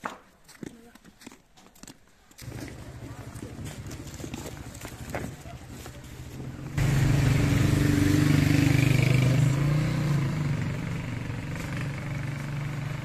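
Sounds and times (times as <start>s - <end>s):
motorcycle engine running: 2.4s - 13.0s.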